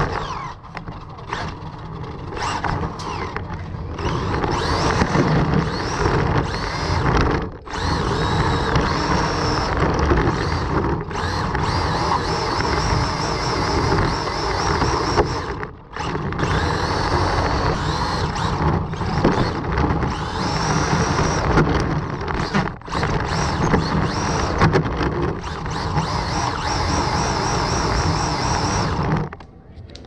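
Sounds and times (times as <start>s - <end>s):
electric motor whine: 0.0s - 29.4s
drivetrain and tyre noise: 0.0s - 30.0s.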